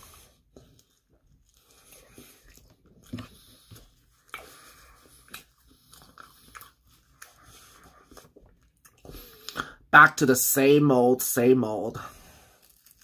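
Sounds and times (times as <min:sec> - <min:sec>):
person chewing food: 0:00.0 - 0:09.8, 0:12.1 - 0:13.0.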